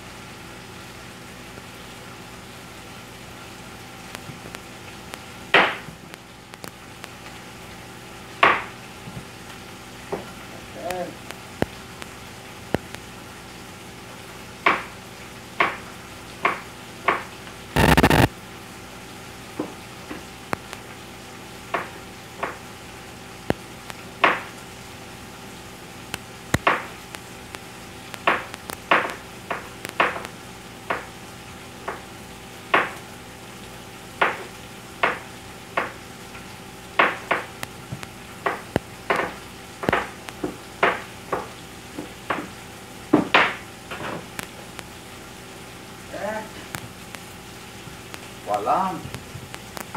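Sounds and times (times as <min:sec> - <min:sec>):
faint hiss and hum: 0:00.0 - 0:49.9.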